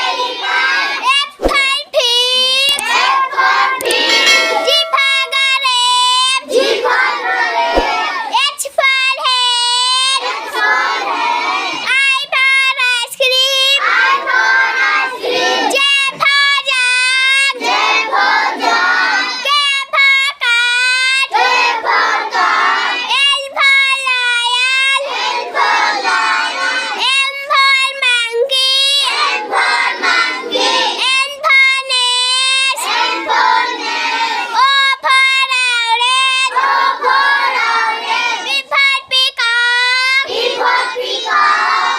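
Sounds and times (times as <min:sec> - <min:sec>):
child singing a nursery chant: 0:00.0 - 0:41.9.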